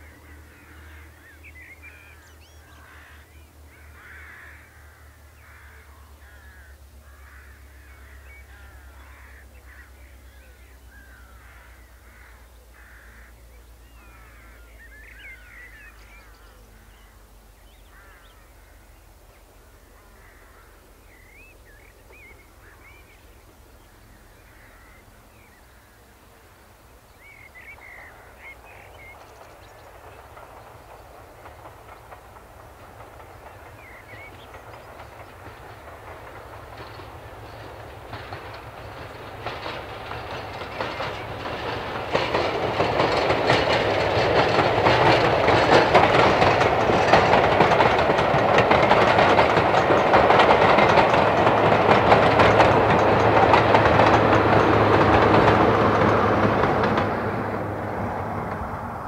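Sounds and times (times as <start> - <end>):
birds calling and singing: 0.0 - 19.5, 20.1 - 57.1
diesel train approaching: 0.0 - 59.0.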